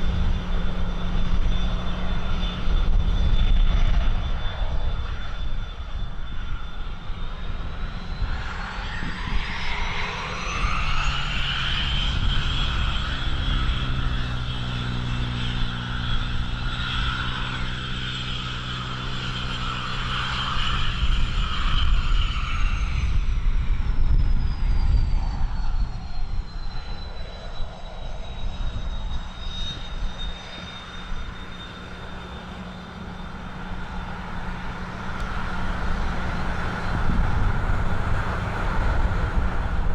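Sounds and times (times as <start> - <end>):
aircraft turbine engine whine: 0.0 - 39.9
low engine drone: 0.0 - 39.9
wind rumble on microphone: 0.0 - 39.9.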